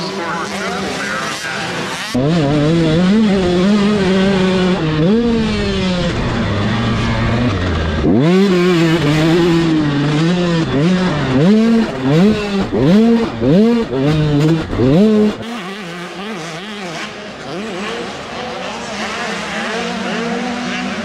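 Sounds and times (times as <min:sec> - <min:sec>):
motocross bikes revving: 0:00.0 - 0:21.0.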